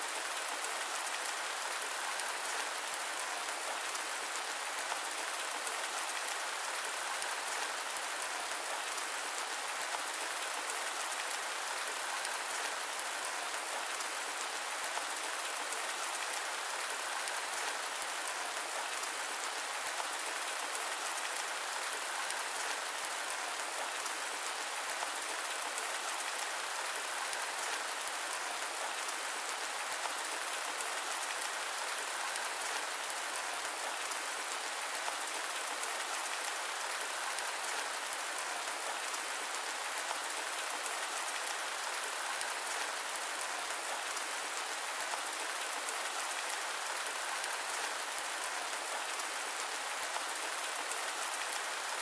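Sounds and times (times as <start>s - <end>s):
steady rain patter: 0.0s - 52.0s.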